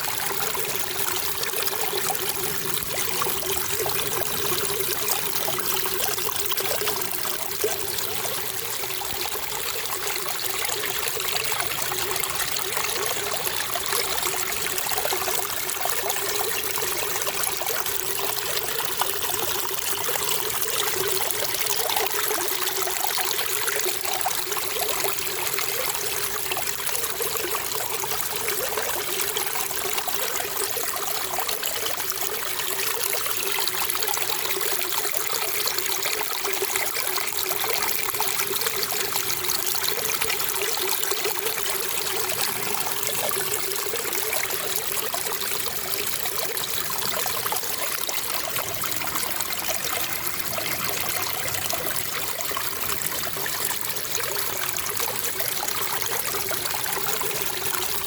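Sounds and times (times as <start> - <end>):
water trickling and bubbling: 0.0 - 58.0.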